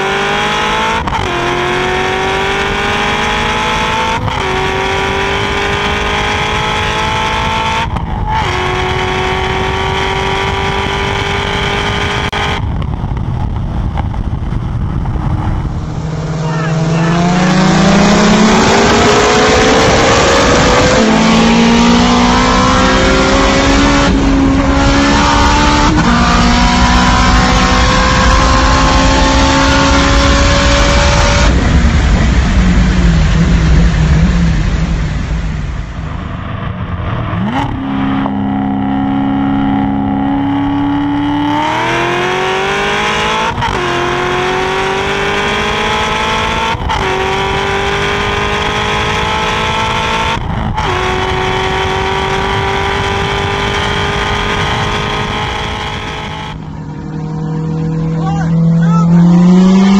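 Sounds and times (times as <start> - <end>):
car engine revving through gears: 0.0 - 35.1, 36.8 - 59.9
race car engines: 0.0 - 59.9.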